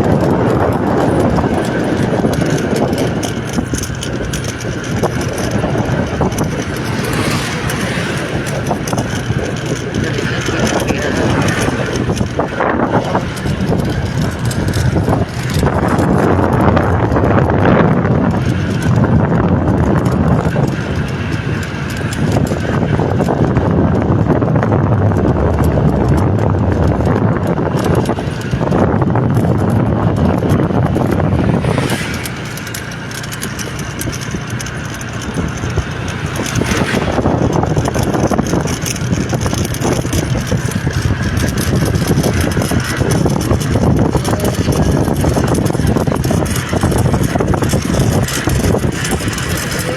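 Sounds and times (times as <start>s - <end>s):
vehicle noise: 0.0s - 49.9s
wind on microphone: 0.0s - 49.9s.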